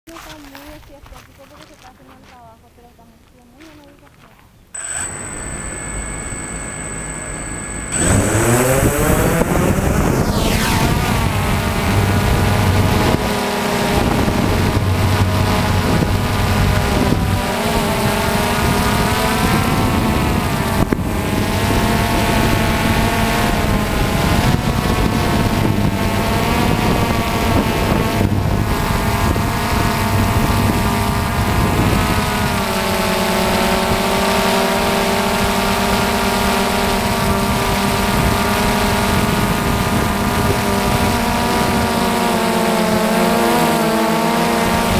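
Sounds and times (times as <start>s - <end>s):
quadcopter motors whining: 4.8s - 44.9s.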